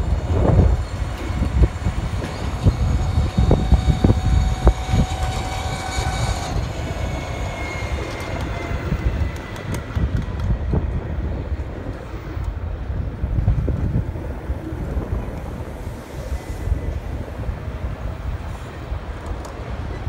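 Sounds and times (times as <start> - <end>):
road rumble: 0.0 - 20.0
wind buffeting microphone: 0.0 - 20.0.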